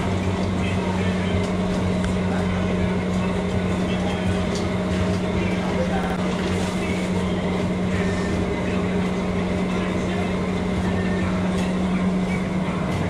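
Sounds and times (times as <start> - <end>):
dense background noise: 0.0 - 13.0
low mechanical hum: 0.0 - 13.0.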